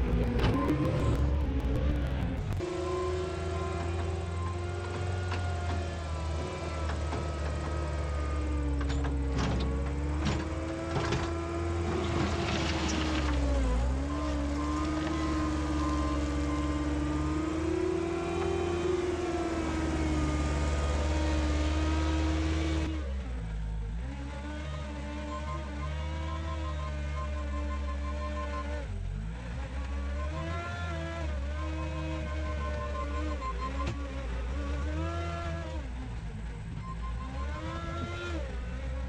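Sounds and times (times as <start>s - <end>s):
heavy equipment engine running: 0.0s - 39.0s.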